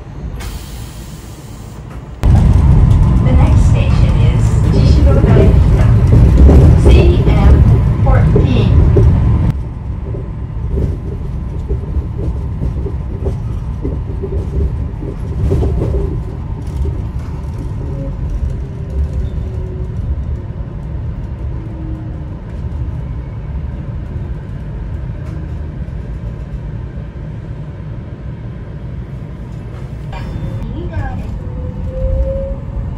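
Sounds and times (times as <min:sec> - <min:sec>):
monorail car rumbling: 0:00.0 - 0:32.9.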